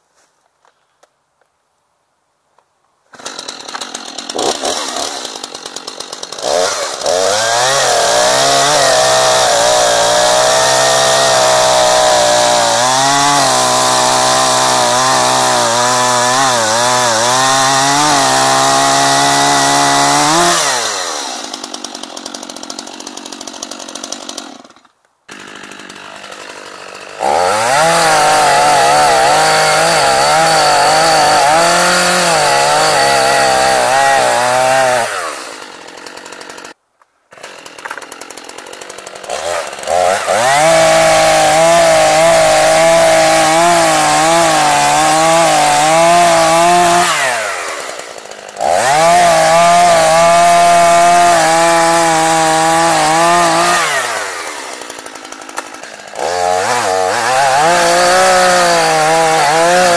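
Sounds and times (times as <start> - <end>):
chainsaw cutting through log: 3.1 - 59.9
chainsaw idling and revving: 3.1 - 59.9.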